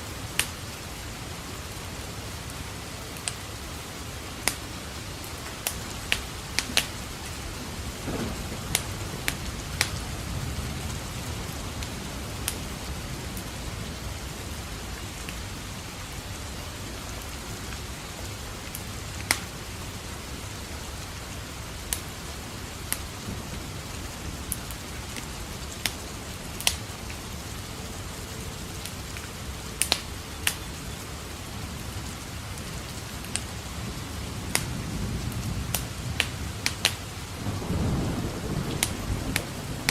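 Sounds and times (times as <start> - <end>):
steady rain: 0.0 - 39.9
wood fire crackling: 0.0 - 39.9
low thunder rumbling: 5.8 - 30.8, 31.5 - 39.9.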